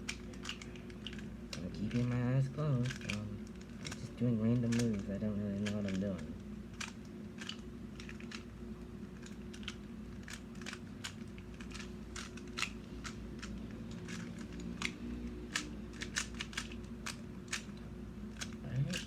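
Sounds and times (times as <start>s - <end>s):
puzzle cube clicking: 2.8s - 8.4s, 9.2s - 19.0s.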